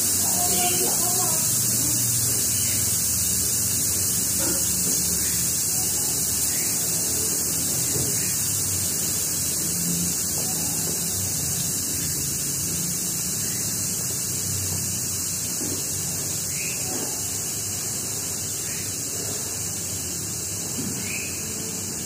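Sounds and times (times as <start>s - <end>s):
air hissing from punctured tyre: 0.0s - 22.0s.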